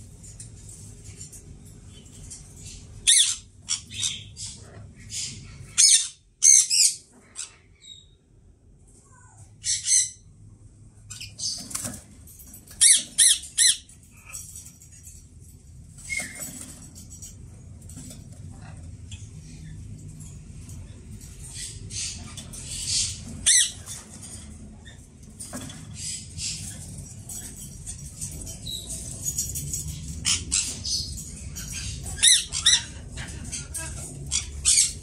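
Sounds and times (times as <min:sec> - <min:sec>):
parakeets squawking: 0:00.3 - 0:08.2, 0:09.6 - 0:10.3, 0:11.0 - 0:35.0.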